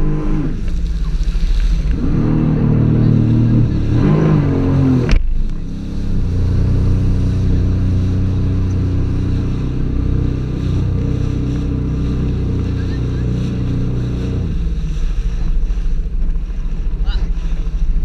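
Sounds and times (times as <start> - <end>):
jet ski engine running: 0.0 - 18.0
water rushing past hull: 0.0 - 18.0.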